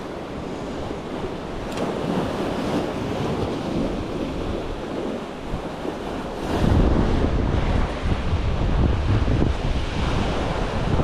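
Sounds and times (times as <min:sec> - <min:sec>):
sea waves washing: 0:00.0 - 0:11.0
wind buffeting microphone: 0:00.0 - 0:11.0.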